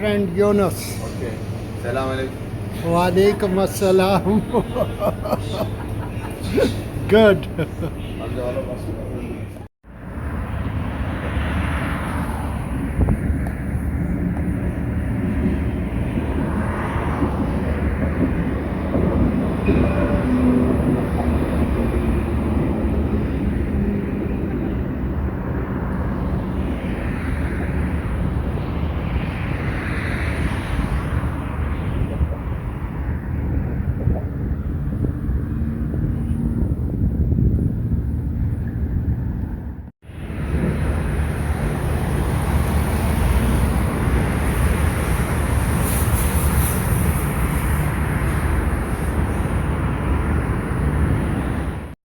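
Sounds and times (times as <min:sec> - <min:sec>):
vehicle engine hum: 0:00.0 - 0:52.0.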